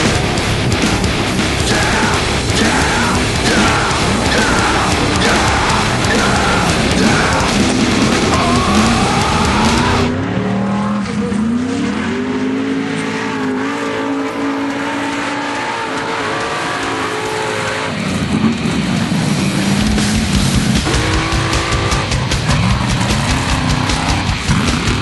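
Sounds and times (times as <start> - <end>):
buggy engine revving hard: 0.0 - 25.0.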